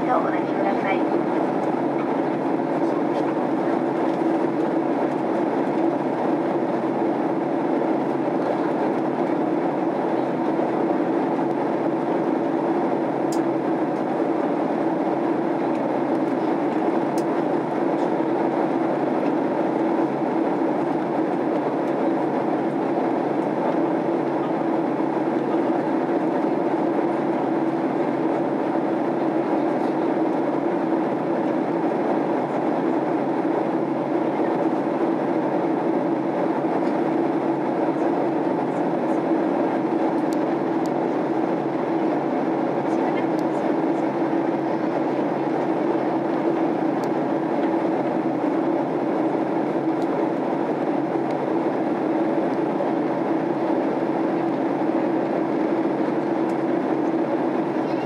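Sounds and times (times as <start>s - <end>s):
airliner cabin engine and airflow noise: 0.0s - 58.0s.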